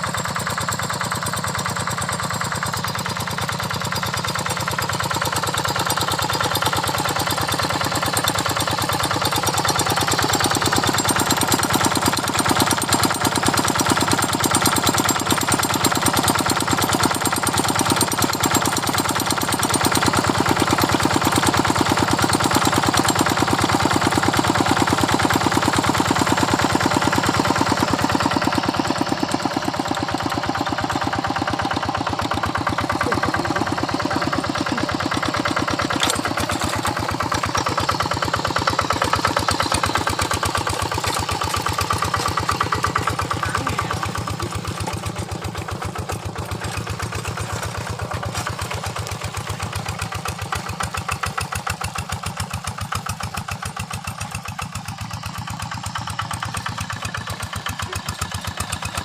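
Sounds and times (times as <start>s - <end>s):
single-cylinder engine running: 0.0s - 59.0s.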